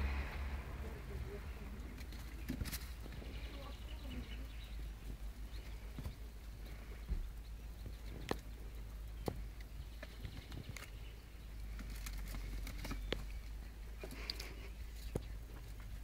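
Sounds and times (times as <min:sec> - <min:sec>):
steady low hum: 0:00.0 - 0:16.0
kittens' paws tapping and scratching: 0:01.8 - 0:04.3, 0:04.9 - 0:16.0.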